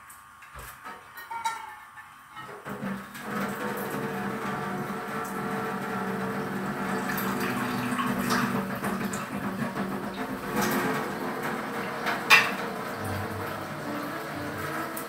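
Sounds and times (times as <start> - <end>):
utensils and dishes clattering: 0.4 - 15.0
water running from a tap: 2.5 - 15.0.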